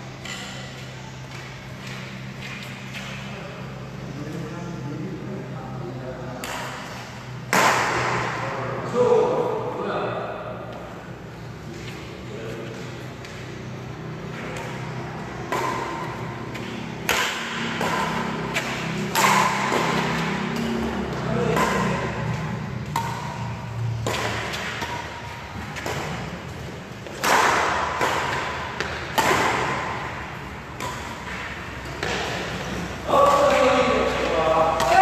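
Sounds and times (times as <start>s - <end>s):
racket hitting shuttlecock: 0.0s - 3.3s, 6.4s - 9.6s, 11.7s - 35.0s.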